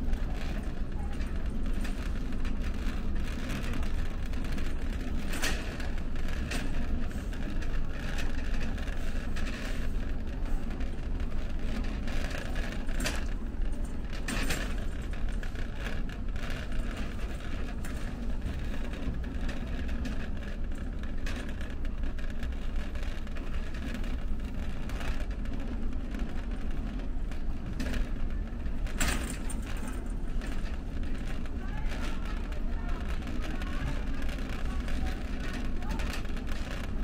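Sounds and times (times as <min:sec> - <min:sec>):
low hum and rumble of store: 0:00.0 - 0:37.0
brief clicks and clatters: 0:00.1 - 0:37.0.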